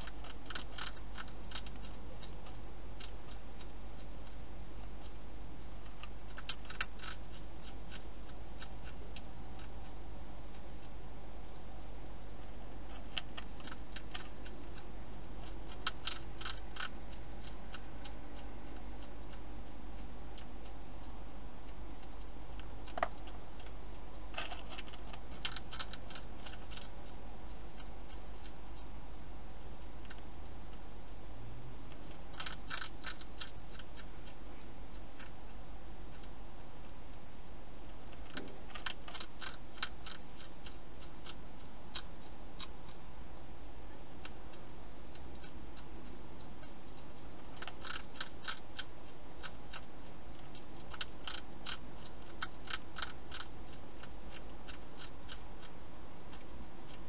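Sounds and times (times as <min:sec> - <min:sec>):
hedgehog crunching food: 0:00.0 - 0:31.2, 0:31.8 - 0:57.0
steady low hum: 0:00.0 - 0:57.0.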